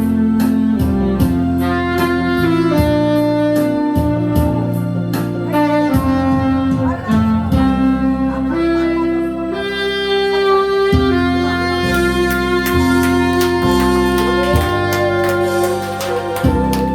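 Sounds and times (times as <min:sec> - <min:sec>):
backing accompaniment track: 0:00.0 - 0:16.9
saxophone slow melody: 0:00.0 - 0:16.9.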